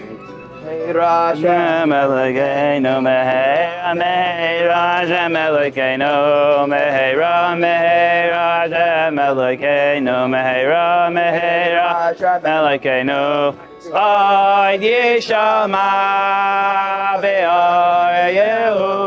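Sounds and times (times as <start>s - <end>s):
men singing slow chant: 0.9s - 19.0s.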